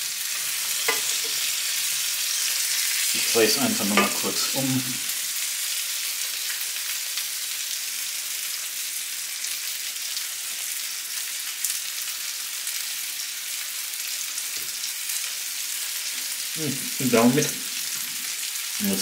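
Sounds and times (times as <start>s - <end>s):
patties sizzling in a frying pan: 0.0s - 19.0s.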